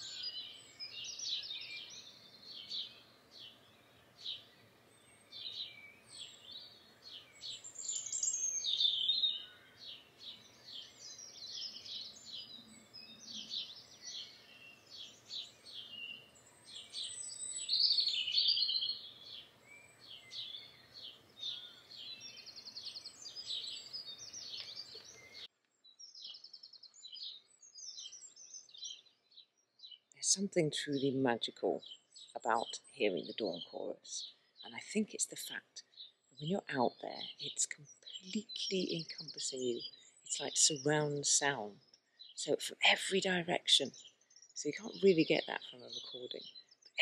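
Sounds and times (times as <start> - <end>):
songbirds singing: 0.0 - 47.0.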